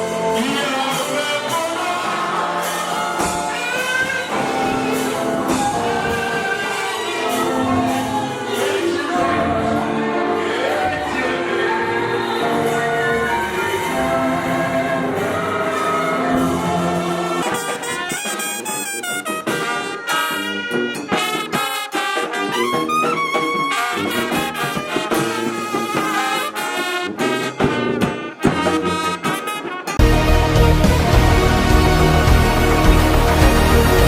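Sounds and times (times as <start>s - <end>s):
brass music: 0.0s - 34.0s.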